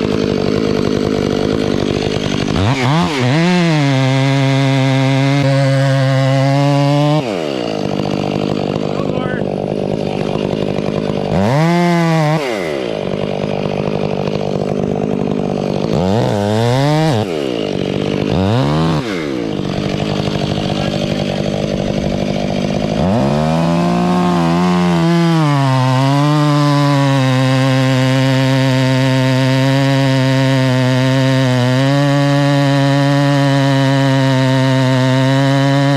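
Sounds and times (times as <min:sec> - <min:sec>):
chainsaw engine revving: 0:00.0 - 0:35.9.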